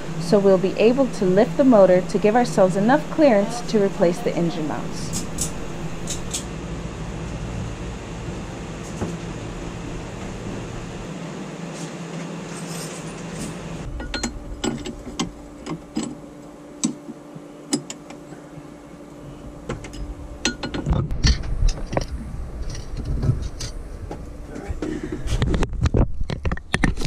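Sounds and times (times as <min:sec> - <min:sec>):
steady hum: 0:00.0 - 0:26.1.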